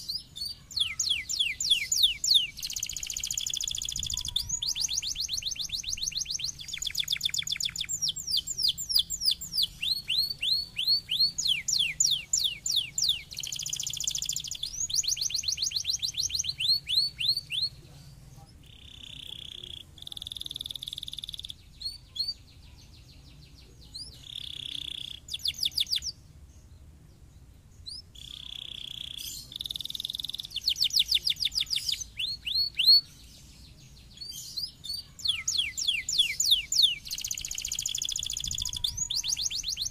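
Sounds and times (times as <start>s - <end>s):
canary singing: 0.0s - 26.2s, 27.8s - 39.9s.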